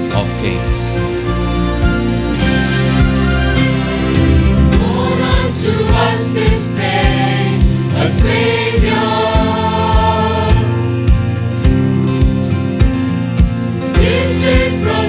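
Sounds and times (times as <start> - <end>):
choir singing gospel: 0.0 - 12.4, 13.8 - 15.0
instrumental accompaniment: 0.0 - 15.0
low thudding beat: 0.7 - 15.0.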